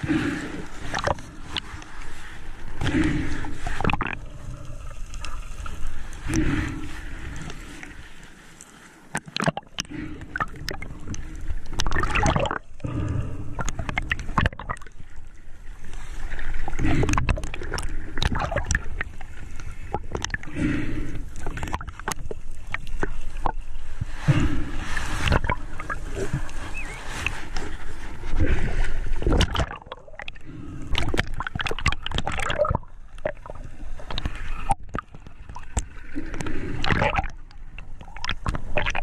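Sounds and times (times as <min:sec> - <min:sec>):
underwater water rushing: 0:00.0 - 0:39.0.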